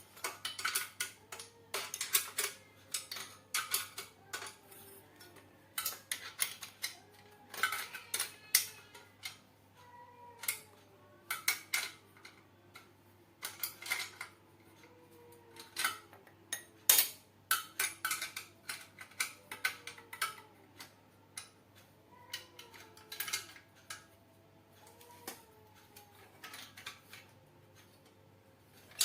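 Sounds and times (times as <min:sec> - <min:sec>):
metal tools clinking and knocking: 0:00.0 - 0:24.2, 0:24.8 - 0:28.1, 0:28.8 - 0:29.0.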